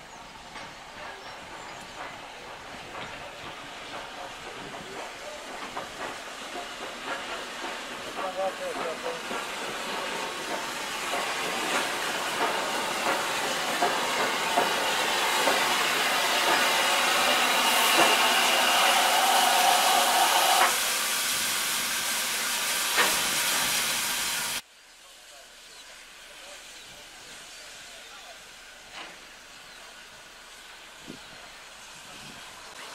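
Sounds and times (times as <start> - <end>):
steam locomotive hissing: 0.0 - 32.9.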